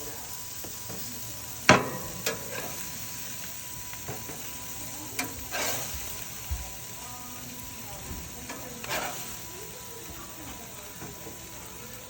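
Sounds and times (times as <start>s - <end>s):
fish sizzling on a grill: 0.0s - 12.0s.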